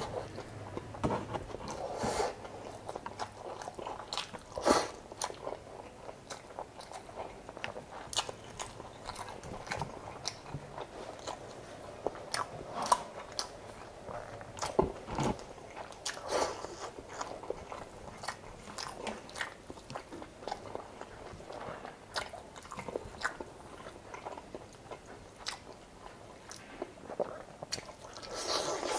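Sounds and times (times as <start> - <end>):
man chewing food: 0.0 - 28.9.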